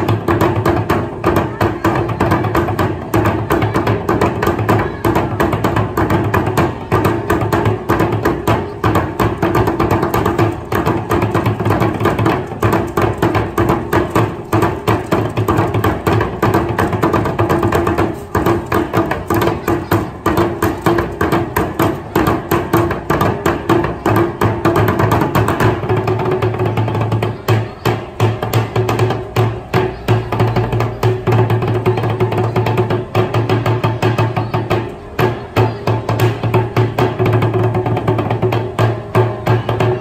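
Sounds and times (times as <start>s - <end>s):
steel barrels drummed with sticks: 0.0s - 40.0s.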